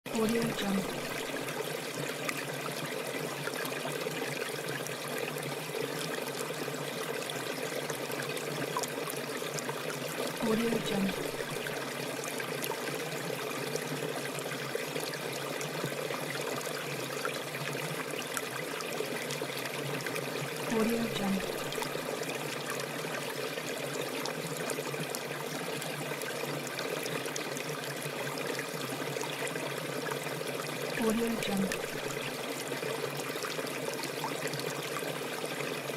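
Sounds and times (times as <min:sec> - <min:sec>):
stream trickling and splashing: 0:00.1 - 0:35.9.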